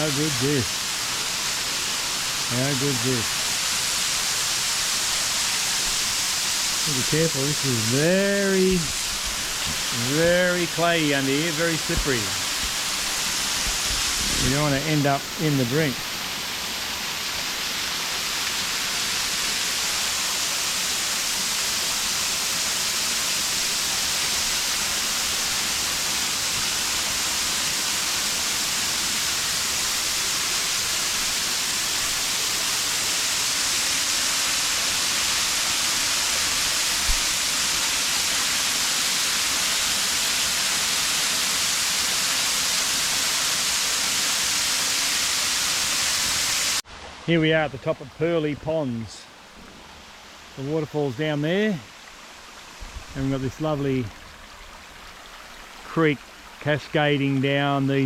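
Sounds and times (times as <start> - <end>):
creek water rushing over rocks: 0.0 - 58.0.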